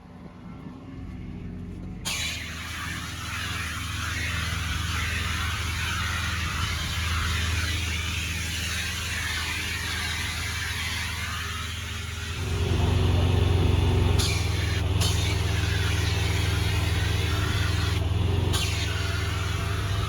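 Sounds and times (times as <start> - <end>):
high-pressure water spray hiss: 2.1 - 20.0
pressure washer humming: 2.1 - 20.0.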